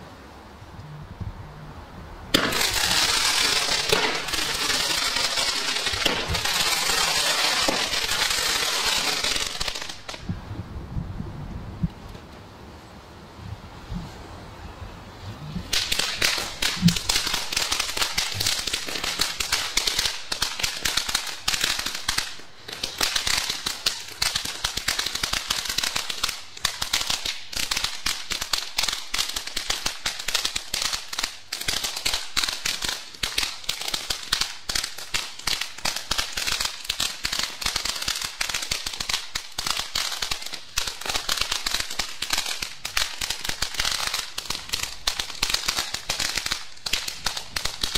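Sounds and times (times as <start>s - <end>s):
firework fountain hissing: 2.3s - 10.3s, 15.7s - 47.9s
rapid firework crackling: 2.3s - 10.3s, 15.7s - 47.9s.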